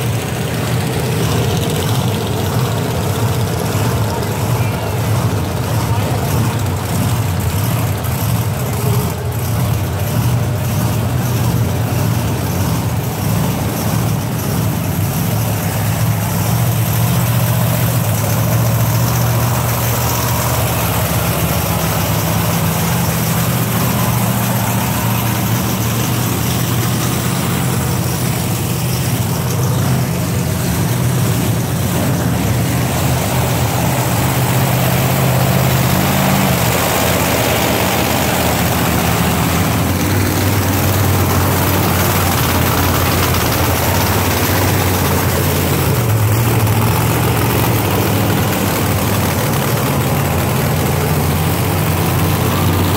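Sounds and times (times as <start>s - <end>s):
monster truck engines running: 0.0s - 52.9s.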